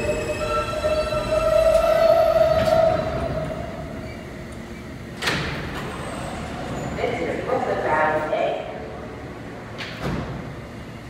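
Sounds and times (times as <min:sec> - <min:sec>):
subway train whine: 0:00.0 - 0:11.0.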